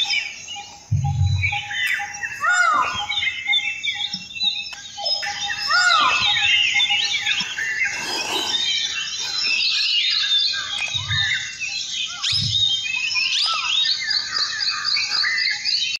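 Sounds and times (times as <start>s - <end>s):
songbirds chirping: 0.0s - 15.9s.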